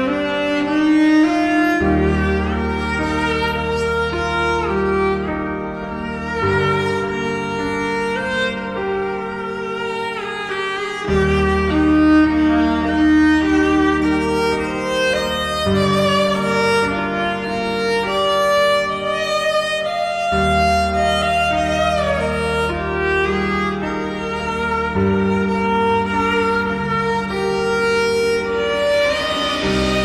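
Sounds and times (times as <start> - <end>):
slow instrumental music: 0.0 - 30.0.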